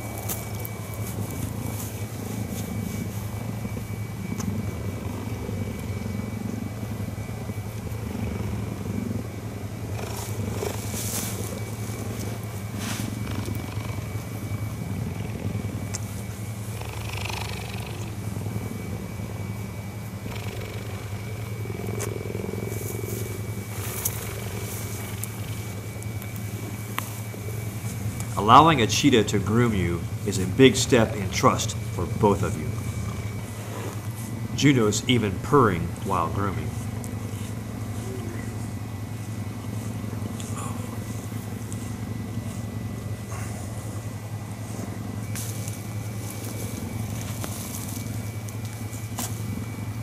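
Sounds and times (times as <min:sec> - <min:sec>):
cheetah purring: 0:00.0 - 0:50.0.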